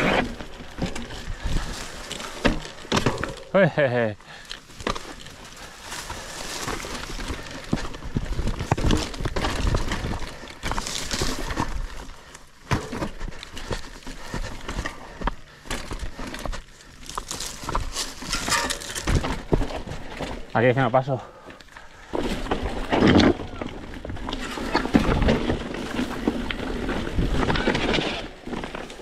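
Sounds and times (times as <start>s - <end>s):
bike rattling clicks and knocks: 0.0s - 3.5s, 4.3s - 20.7s, 21.6s - 29.0s
bike tyres crunching over rock: 0.0s - 29.0s.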